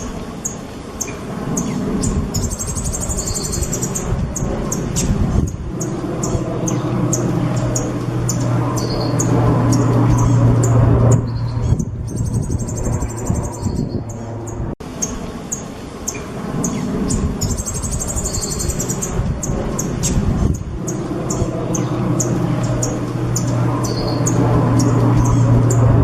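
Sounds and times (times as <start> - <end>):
buzzing bird trill: 0.0 - 26.0
steady low hum: 0.0 - 26.0.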